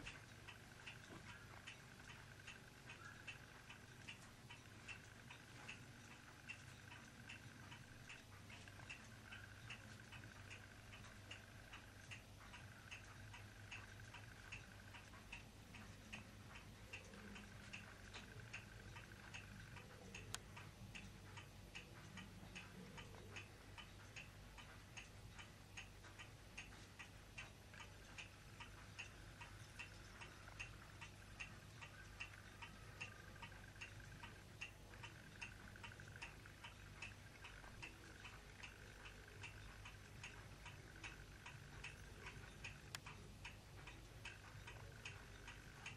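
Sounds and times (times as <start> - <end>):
low steady hum: 0.0 - 45.9
steady ticking: 0.0 - 45.9.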